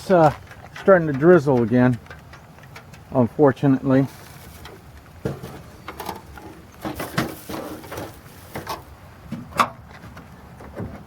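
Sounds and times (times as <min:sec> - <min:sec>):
rustles: 0:00.0 - 0:11.0.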